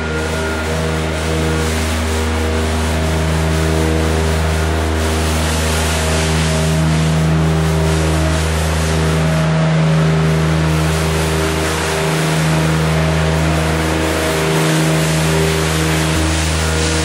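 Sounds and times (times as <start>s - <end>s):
loader engine running: 0.0s - 17.0s
broom hissing sweeping straw: 0.1s - 17.0s.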